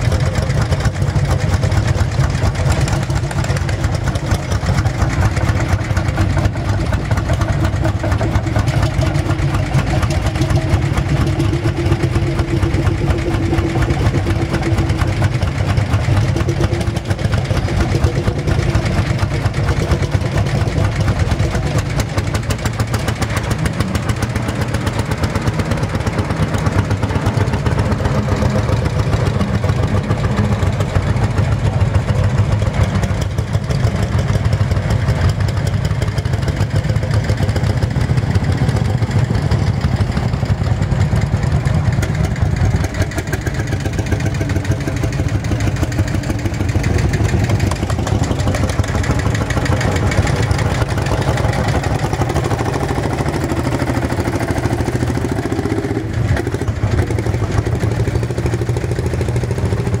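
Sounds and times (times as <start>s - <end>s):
tractor engine chugging: 0.0s - 60.0s.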